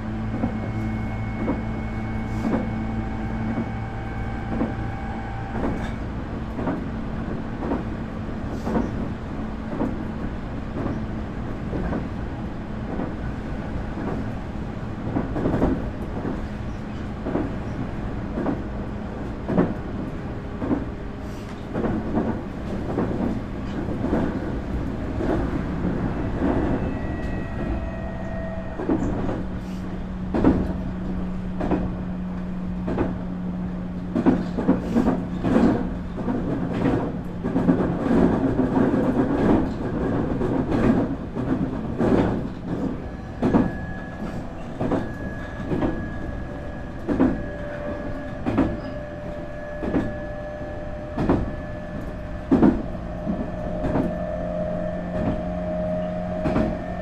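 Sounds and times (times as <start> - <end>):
train interior low hum: 0.0 - 57.0.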